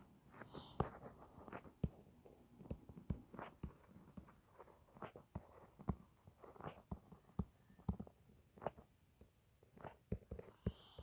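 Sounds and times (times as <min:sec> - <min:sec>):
pen tapping and scratching: 0:00.8 - 0:11.0.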